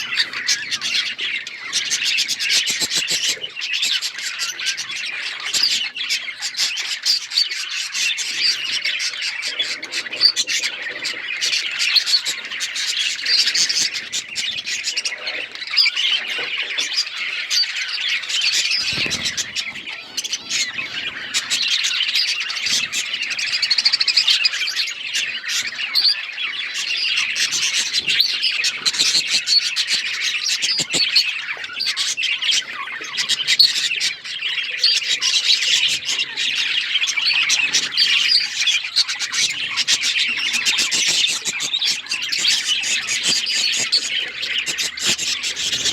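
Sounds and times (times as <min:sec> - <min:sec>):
budgerigars chattering and chirping: 0:00.0 - 0:45.9.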